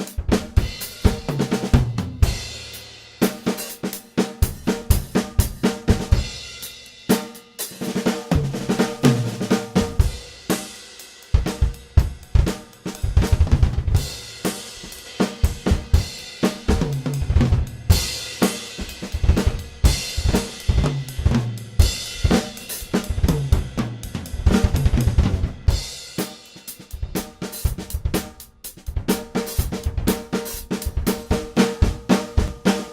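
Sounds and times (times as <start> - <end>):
drum kit playing: 0.0 - 32.9.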